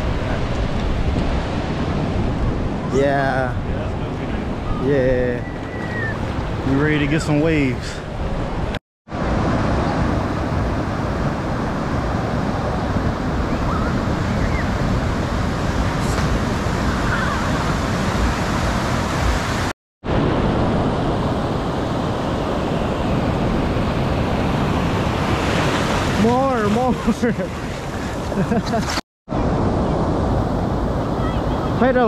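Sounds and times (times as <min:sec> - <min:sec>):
ocean surf rushing: 0:00.0 - 0:32.0.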